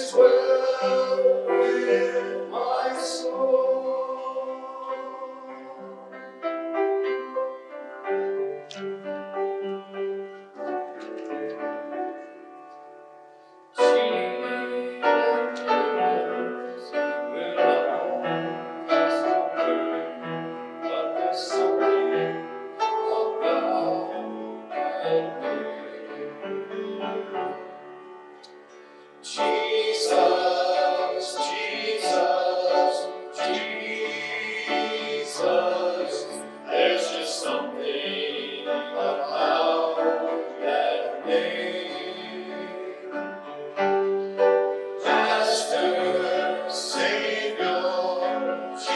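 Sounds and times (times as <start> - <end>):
voices singing worship song: 0.0 - 7.4, 13.7 - 27.8, 28.4 - 48.9
piano: 0.0 - 48.9.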